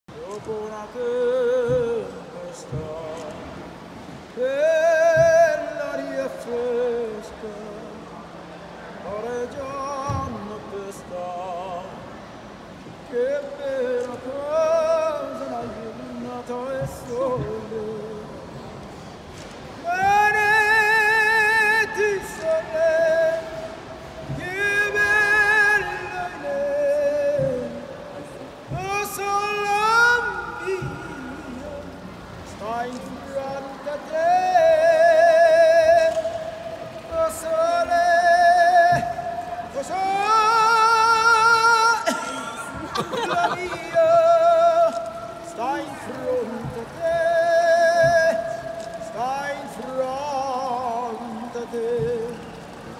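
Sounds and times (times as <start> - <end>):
man singing with vibrato: 0.1 - 18.8, 19.6 - 52.9.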